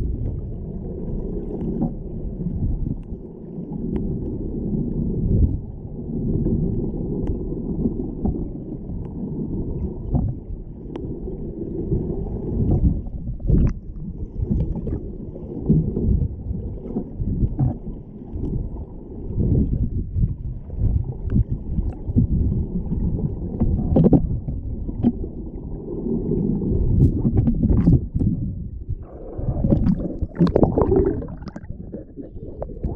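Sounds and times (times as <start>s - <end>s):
muffled water sloshing: 0.0s - 32.9s.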